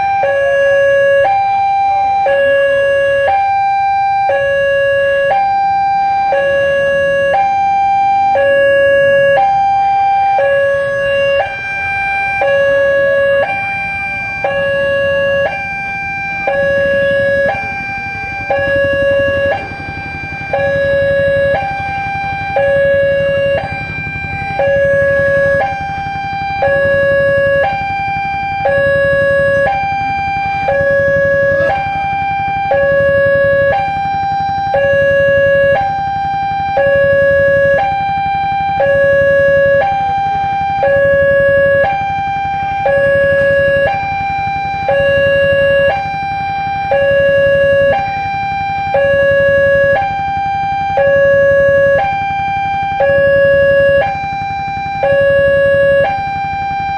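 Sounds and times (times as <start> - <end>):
two-tone level crossing siren: 0.0 - 56.9.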